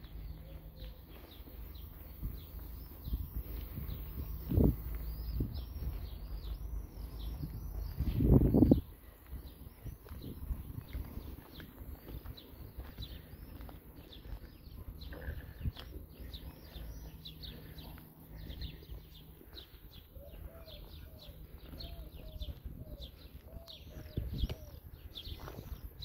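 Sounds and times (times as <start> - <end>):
low outdoor rumble: 0.0 - 26.0
lower-pitched bird calls: 0.0 - 26.0
small birds chirping: 0.0 - 26.0.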